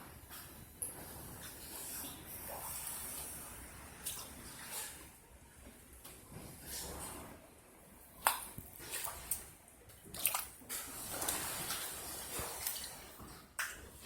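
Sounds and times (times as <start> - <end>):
floodwater sloshing and splashing: 0.2 - 14.0.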